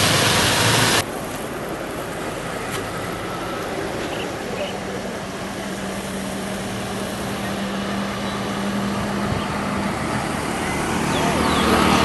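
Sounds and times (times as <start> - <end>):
engine running: 0.0 - 12.0
traffic noise: 0.0 - 12.0.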